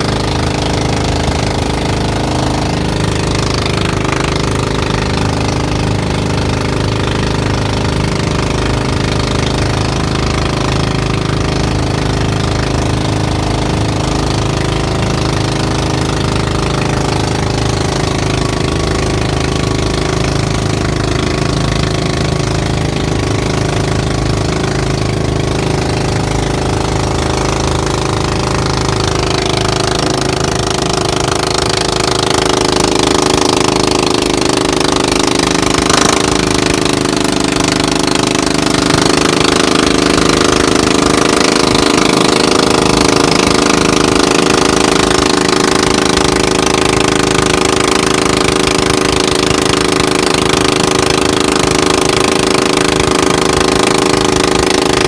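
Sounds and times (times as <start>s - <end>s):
boat engine knocking drone: 0.0s - 55.0s.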